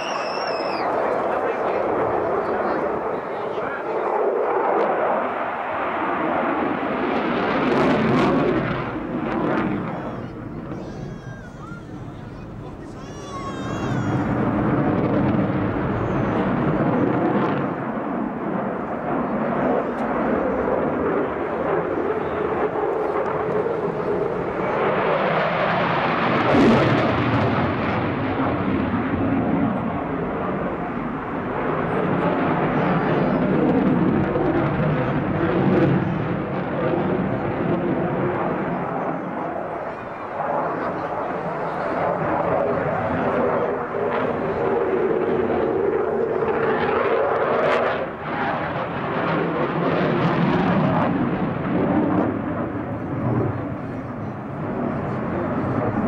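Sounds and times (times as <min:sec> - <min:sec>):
jet engine roaring: 0:00.0 - 0:56.0.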